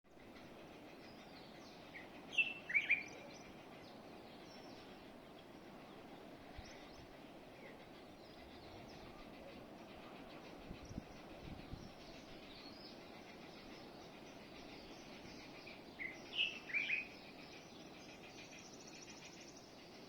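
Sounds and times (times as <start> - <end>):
songbirds chirping: 0.1 - 20.0
steady background hiss: 0.1 - 20.0.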